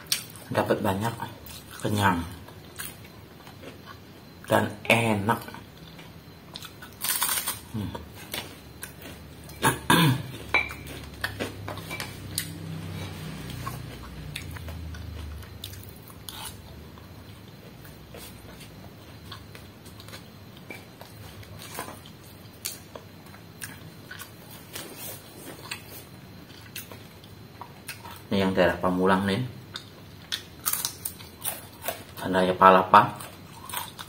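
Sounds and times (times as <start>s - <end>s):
chewing: 1.4s - 4.0s, 5.8s - 28.3s, 29.7s - 32.3s, 33.1s - 34.0s.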